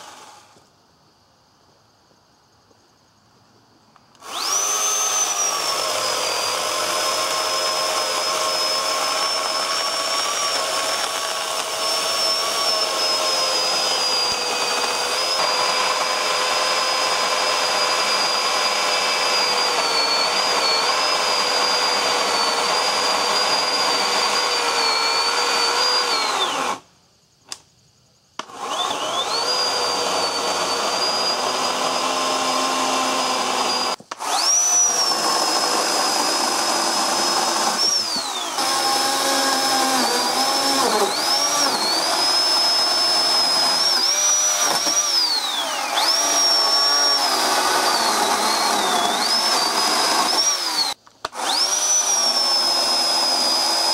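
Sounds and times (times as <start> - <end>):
chainsaw motor whining: 0.0 - 0.7, 4.1 - 26.9, 28.4 - 53.9.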